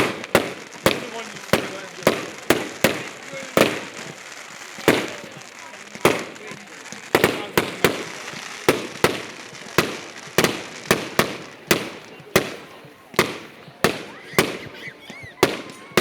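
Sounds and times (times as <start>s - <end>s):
fireworks banging with echo: 0.0s - 16.0s.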